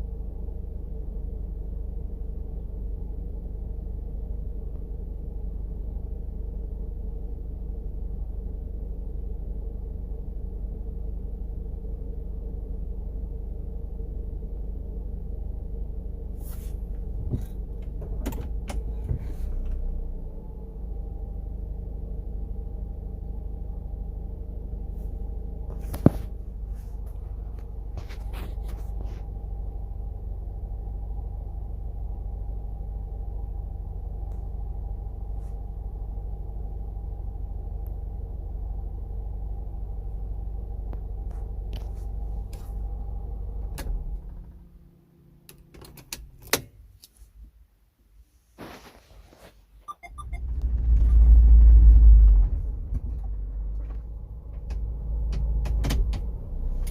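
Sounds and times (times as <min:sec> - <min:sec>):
loud low rumble: 0:00.0 - 0:44.9, 0:50.0 - 0:56.9
car engine humming: 0:00.0 - 0:46.6, 0:49.8 - 0:56.9.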